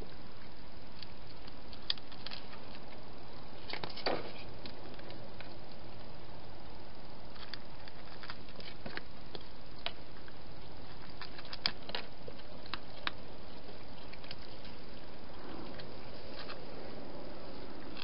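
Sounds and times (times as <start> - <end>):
cat chewing food: 0.0 - 6.3, 7.2 - 18.0
steady hiss: 0.0 - 18.0.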